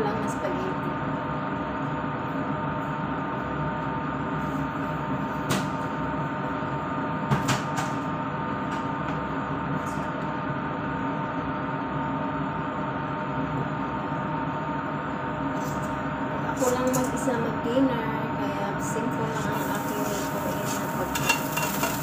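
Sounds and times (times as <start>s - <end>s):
extractor fan hum: 0.0s - 22.0s.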